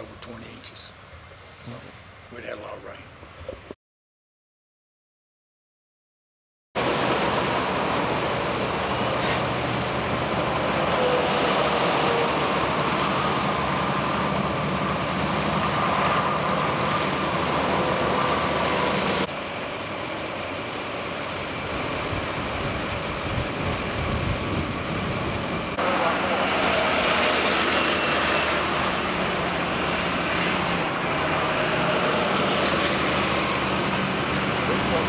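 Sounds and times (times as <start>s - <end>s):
heavy diesel engines running: 6.8s - 35.0s.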